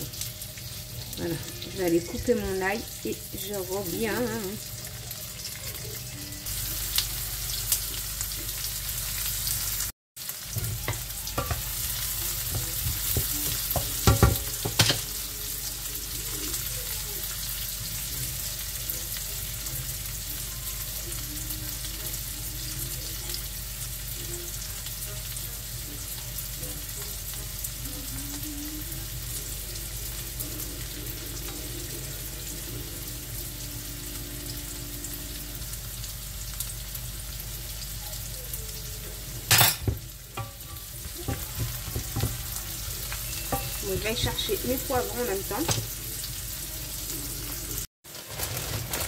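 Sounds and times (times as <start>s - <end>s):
onions sizzling in oil: 0.0s - 49.0s.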